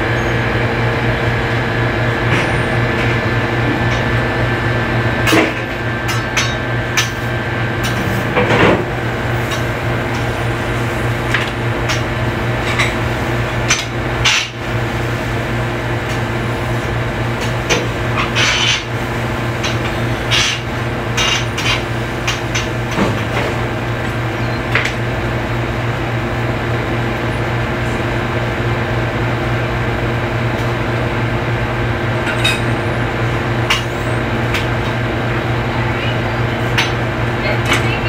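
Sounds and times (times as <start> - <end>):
kitchen machinery hum: 0.0 - 38.0.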